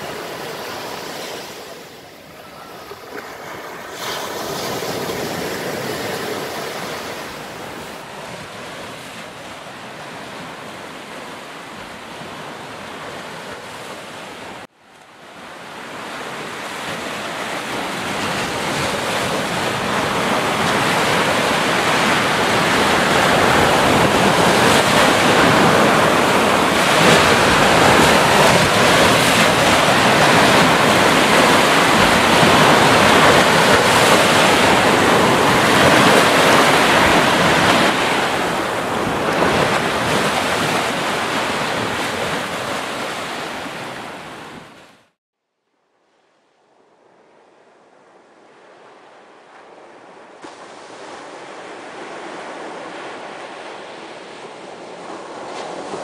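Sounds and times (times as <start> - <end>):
ocean waves breaking: 0.0 - 45.2, 48.4 - 56.0.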